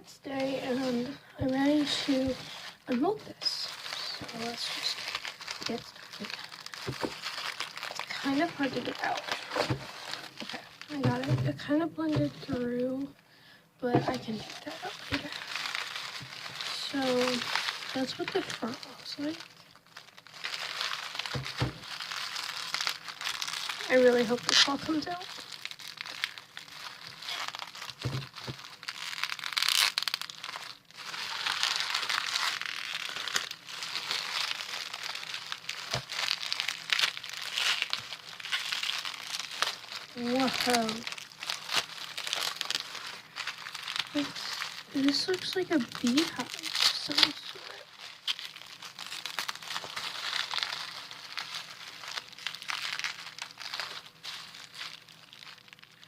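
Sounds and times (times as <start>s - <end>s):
bubble wrap crinkling and crackling: 0.0s - 56.0s.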